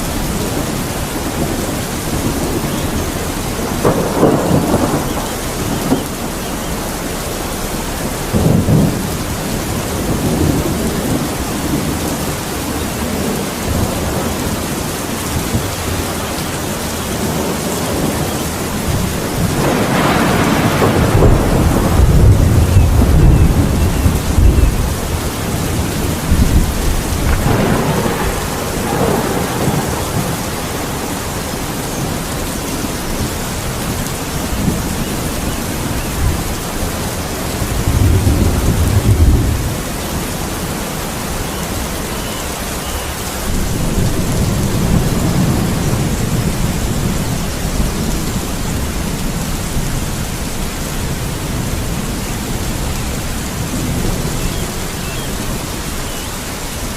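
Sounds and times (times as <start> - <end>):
heavy rain: 0.0 - 56.9
thunder rumbling: 0.0 - 56.9.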